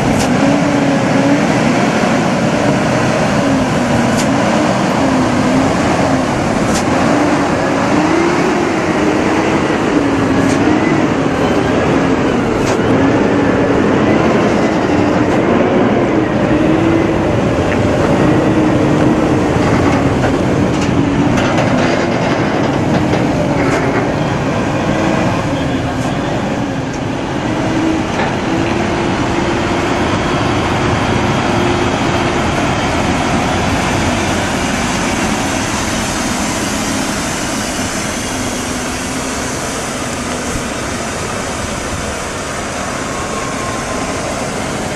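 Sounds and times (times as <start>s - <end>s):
truck engine droning: 0.0s - 44.9s.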